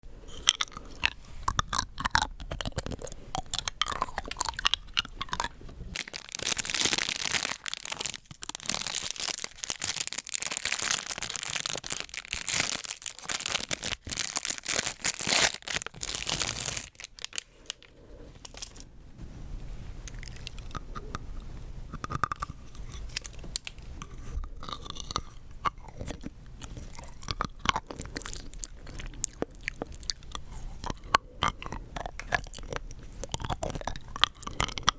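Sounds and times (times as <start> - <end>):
rock candy crunching: 0.3 - 18.8, 22.0 - 34.9.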